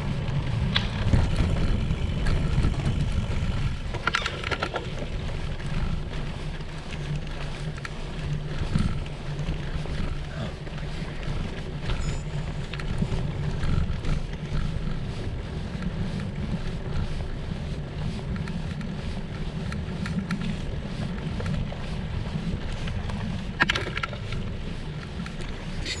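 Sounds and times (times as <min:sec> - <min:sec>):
faint clicks and rattles: 0:00.0 - 0:17.2, 0:18.1 - 0:26.0
low rumble of bike riding: 0:00.0 - 0:26.0
wind buffeting microphone: 0:00.0 - 0:26.0.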